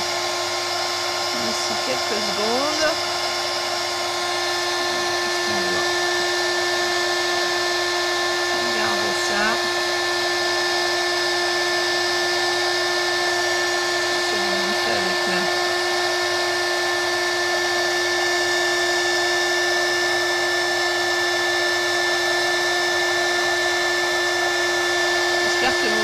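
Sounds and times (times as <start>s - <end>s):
heat gun blowing with whine: 0.0s - 26.0s.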